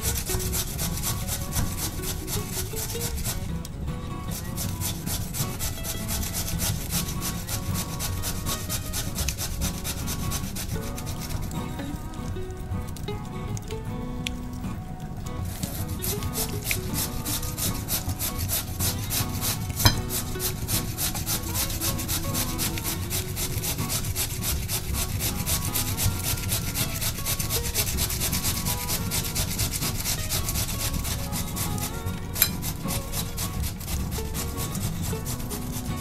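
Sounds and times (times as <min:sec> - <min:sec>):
potato grated on metal grater: 0:00.0 - 0:03.7, 0:04.3 - 0:11.7, 0:15.5 - 0:36.0.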